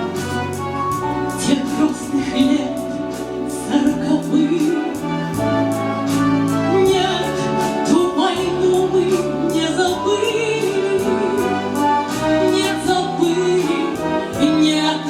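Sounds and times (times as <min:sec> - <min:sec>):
bass notes: 0:00.0 - 0:15.0
instrumental accompaniment: 0:00.0 - 0:15.0
woman singing with vibrato: 0:01.0 - 0:15.0.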